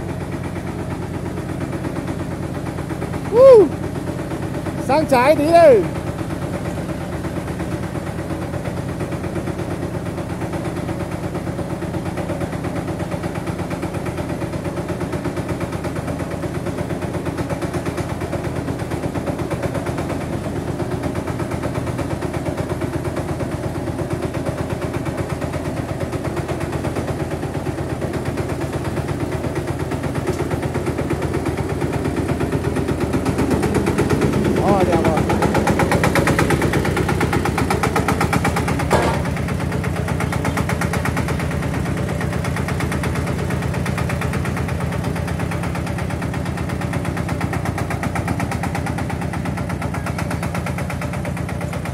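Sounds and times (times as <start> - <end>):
concrete mixer engine chugging: 0.0 - 51.9.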